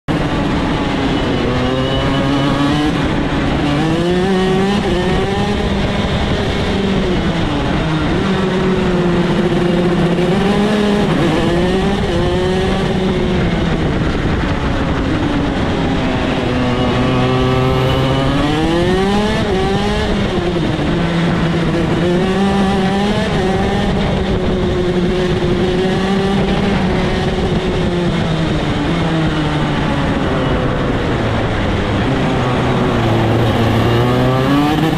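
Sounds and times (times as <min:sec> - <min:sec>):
constant rushing noise: 0:00.1 - 0:34.9
kart engine revving: 0:00.1 - 0:34.9.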